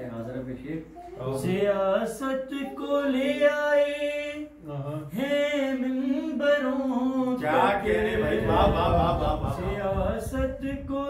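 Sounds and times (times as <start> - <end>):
man singing unaccompanied: 1.0 - 11.0.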